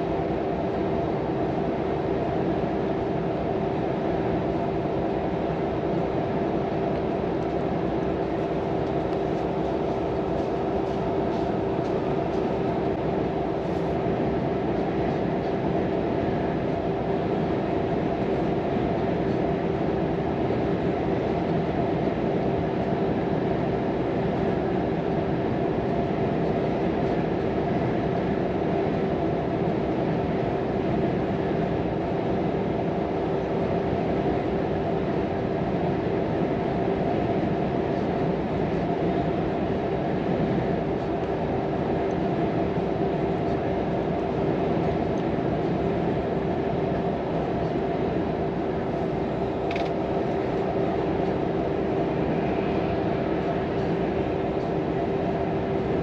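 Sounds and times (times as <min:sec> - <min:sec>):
road noise inside cab: 0:03.1 - 0:23.5, 0:24.1 - 0:56.0.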